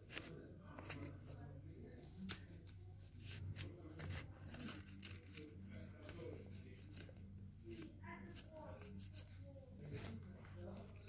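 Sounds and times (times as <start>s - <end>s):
paper rustling and clicking: 0.0s - 1.4s, 2.0s - 11.0s.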